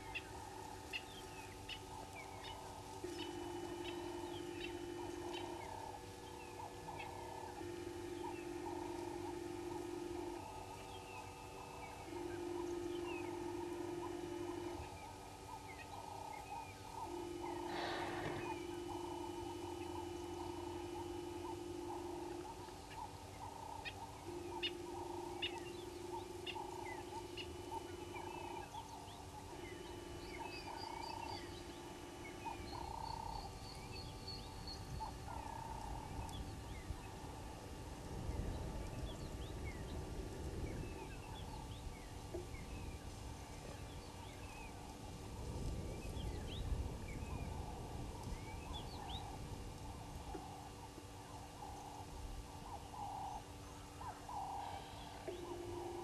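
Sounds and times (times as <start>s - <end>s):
bird trill: 0.0s - 37.4s, 45.8s - 56.0s
steady low hum: 0.0s - 56.0s
wild birds chirping: 0.0s - 56.0s.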